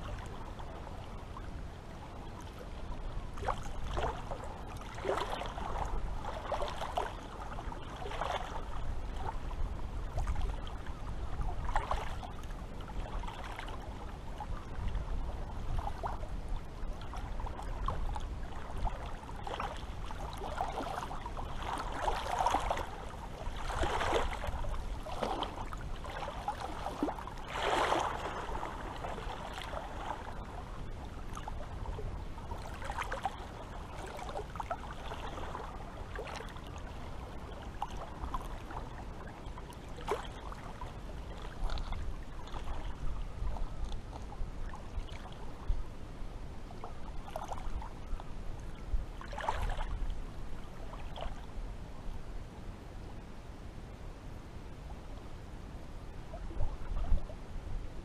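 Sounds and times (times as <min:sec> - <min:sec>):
low steady rumble: 0:00.0 - 0:58.0
small waves lapping and splashing: 0:00.0 - 0:58.0.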